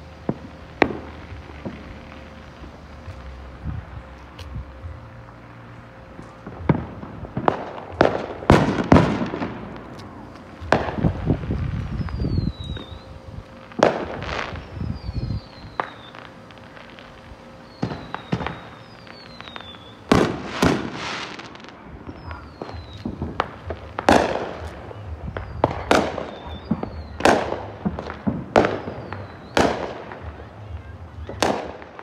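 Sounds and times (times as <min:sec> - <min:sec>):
fireworks bangs and cracks: 0:00.0 - 0:32.0.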